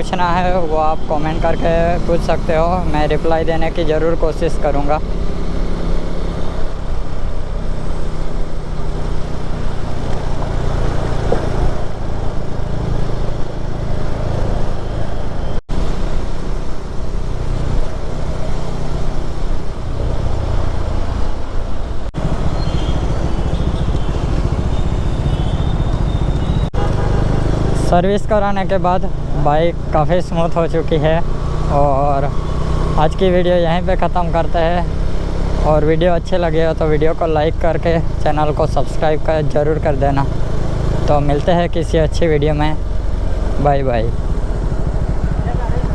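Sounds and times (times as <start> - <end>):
motorcycle engine rumbling: 0.0 - 45.9
wind and road noise: 0.0 - 45.9.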